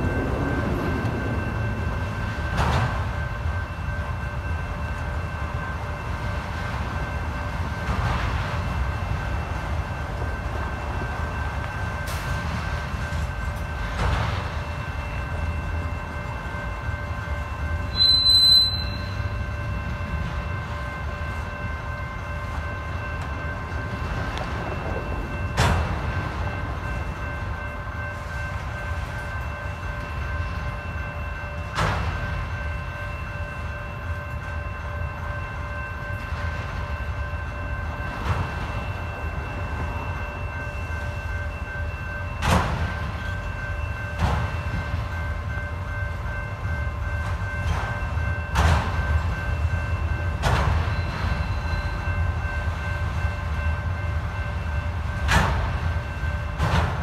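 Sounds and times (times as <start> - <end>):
crossing bell ringing: 0.0 - 57.0
freight train wheels rumbling: 0.0 - 57.0
train car clanking: 0.0 - 57.0.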